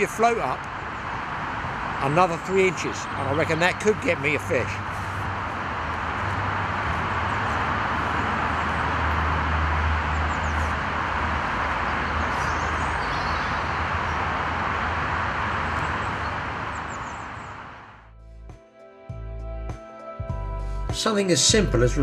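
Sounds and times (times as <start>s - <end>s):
deep vehicle rumble: 0.0s - 18.6s
road traffic noise: 0.0s - 21.8s.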